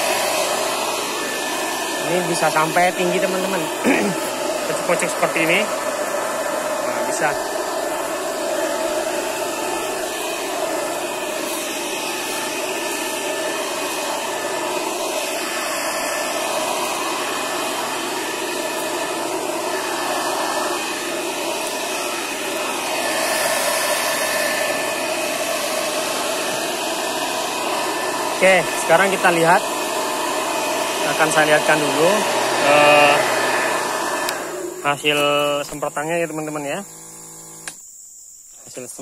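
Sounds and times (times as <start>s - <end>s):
electric blower fan whine: 0.0s - 38.3s.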